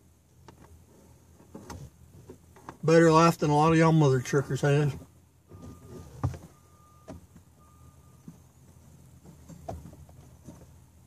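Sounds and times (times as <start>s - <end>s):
knocks and rustles of shifting: 0.2s - 3.6s, 4.2s - 11.0s.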